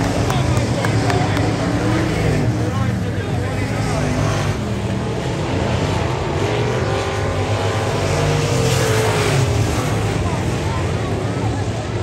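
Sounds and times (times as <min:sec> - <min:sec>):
race car engines passing: 0:00.0 - 0:12.0.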